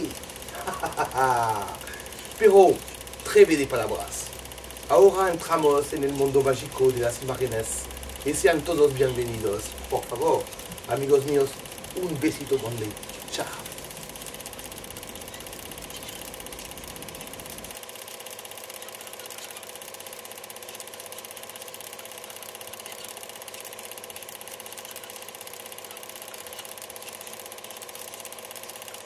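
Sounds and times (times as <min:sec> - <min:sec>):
film projector clatter: 0:00.0 - 0:29.0.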